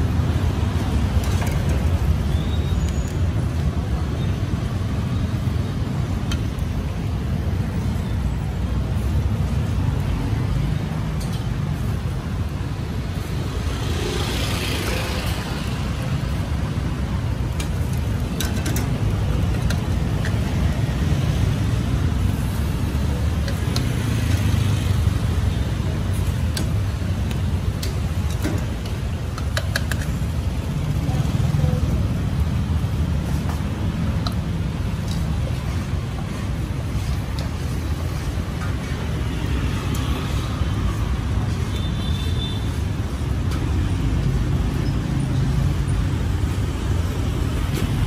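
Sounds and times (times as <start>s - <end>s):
traffic rumble: 0.0s - 48.0s.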